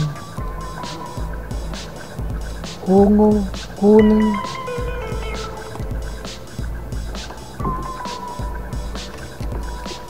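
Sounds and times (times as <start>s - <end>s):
low rumble: 0.0s - 9.9s
music with soft beat: 0.0s - 10.0s.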